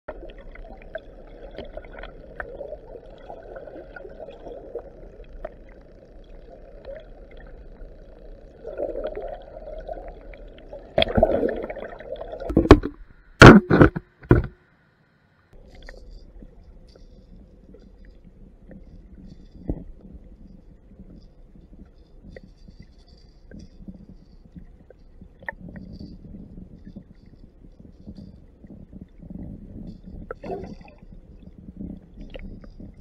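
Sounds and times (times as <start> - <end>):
faint ticks: 0.1 - 11.2, 14.1 - 33.0
muffled underwater river rush: 0.1 - 33.0.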